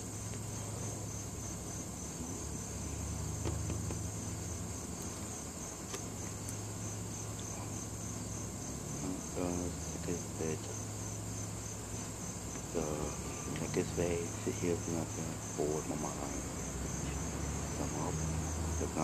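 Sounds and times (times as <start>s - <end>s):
insects chirping: 0.0s - 19.0s
low steady hum: 0.0s - 19.0s.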